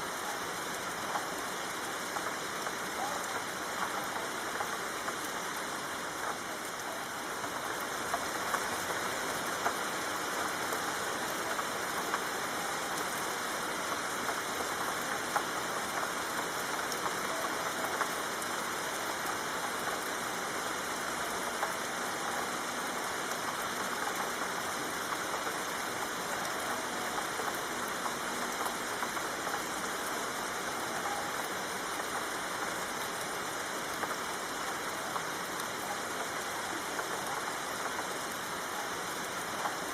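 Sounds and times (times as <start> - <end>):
raindrops ticking: 0.0 - 39.9
soft rain hissing: 0.0 - 39.9.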